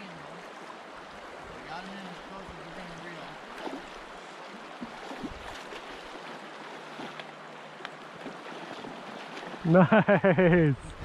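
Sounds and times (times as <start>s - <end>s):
river current rushing: 0.0s - 11.0s
water splashes: 0.0s - 11.0s.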